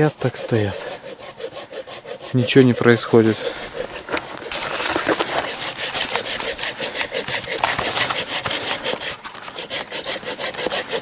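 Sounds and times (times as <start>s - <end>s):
hand saw cutting wood: 0.0s - 11.0s.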